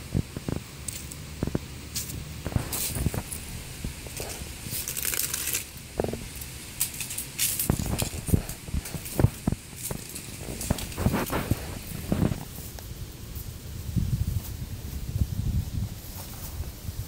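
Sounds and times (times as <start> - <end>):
dry leaves crackling under paws: 0.6 - 17.0.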